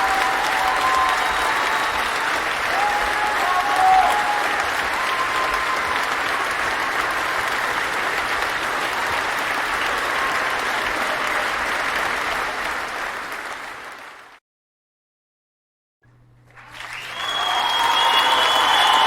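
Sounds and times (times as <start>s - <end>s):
audience applauding: 0.0s - 14.4s, 16.5s - 19.0s.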